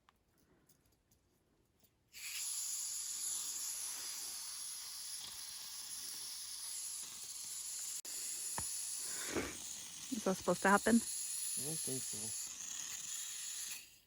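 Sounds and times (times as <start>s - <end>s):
gas hissing from stove: 2.2s - 13.8s.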